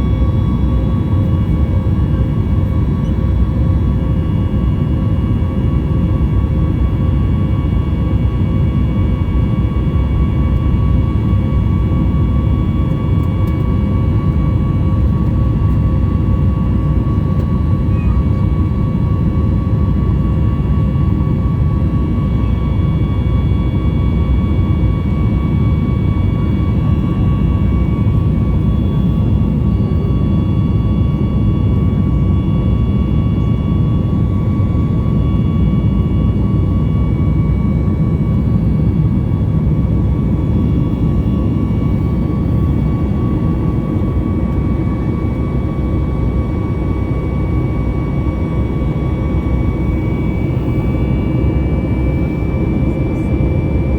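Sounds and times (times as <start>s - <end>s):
jet engine high whine: 0.0s - 53.9s
jet engines rumbling: 0.0s - 53.9s.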